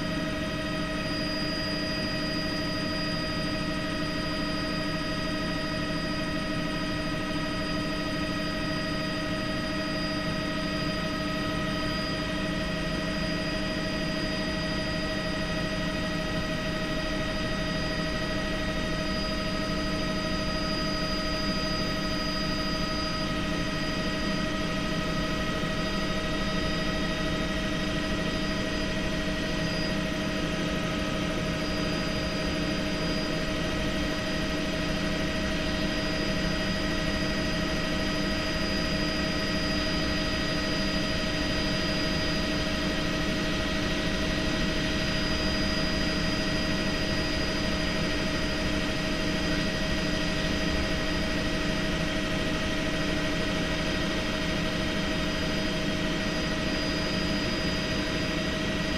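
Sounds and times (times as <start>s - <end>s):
helicopter engine and rotor drone: 0.0s - 58.9s
steady whining tones: 0.0s - 58.9s.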